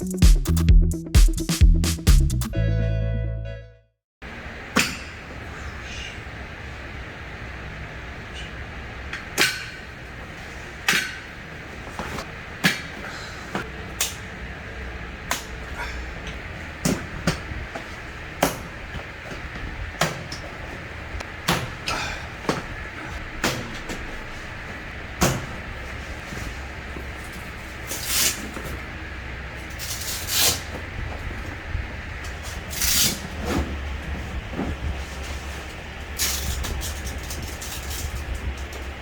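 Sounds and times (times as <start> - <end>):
steady low hum: 4.2 - 39.0.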